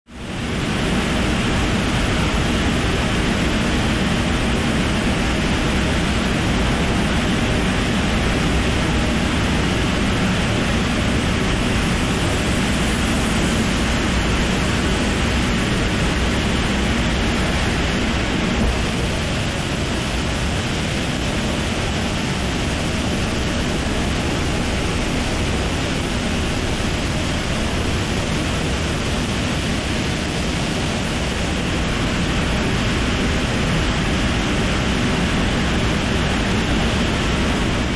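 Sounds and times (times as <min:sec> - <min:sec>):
jet engine rushing roar: 0:00.1 - 0:37.9.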